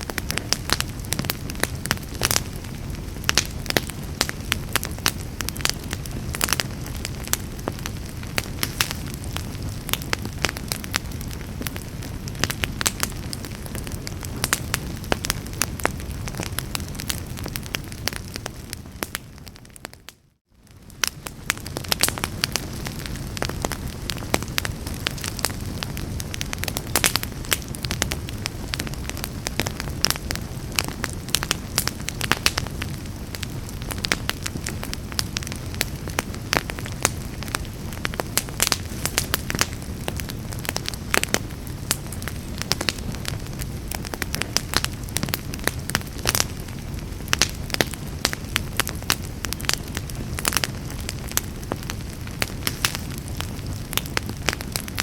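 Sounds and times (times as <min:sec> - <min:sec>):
fire crackling: 0:00.0 - 0:55.0
low rumble of flames: 0:00.0 - 0:55.0.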